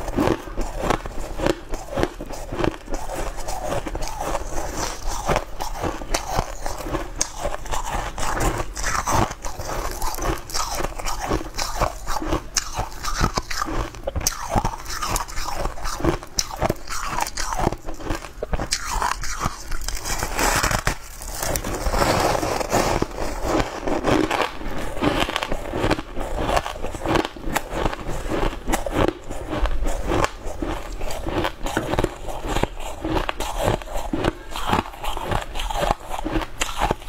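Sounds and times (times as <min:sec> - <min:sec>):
ice being bitten and chewed: 0:00.0 - 0:37.0.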